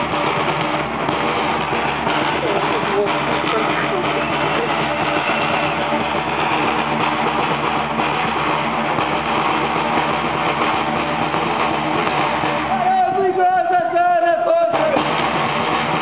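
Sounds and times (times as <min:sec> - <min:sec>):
dense noisy din: 0:00.0 - 0:16.0
drum band playing: 0:00.0 - 0:16.0
steady held tones: 0:00.0 - 0:16.0.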